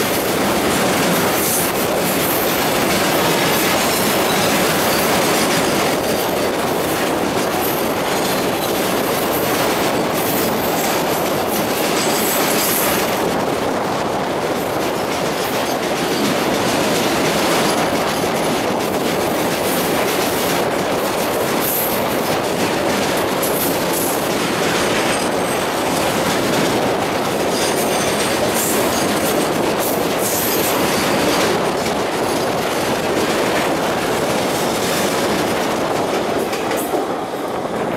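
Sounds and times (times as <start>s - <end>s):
wheel screeching on rail: 0.0s - 14.0s, 14.6s - 37.9s
clickety-clack over rail joints: 0.0s - 37.9s
train wheels rumbling on rails: 0.0s - 37.9s.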